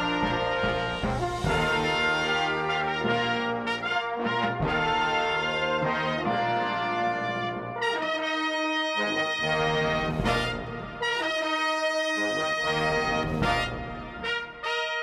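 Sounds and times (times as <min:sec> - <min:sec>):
orchestral brass chords: 0:00.0 - 0:15.0.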